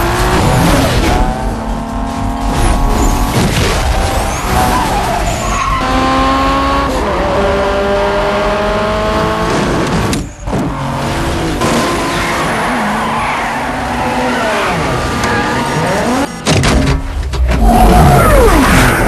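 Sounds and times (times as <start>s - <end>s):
racing car engines revving: 0.0s - 16.6s.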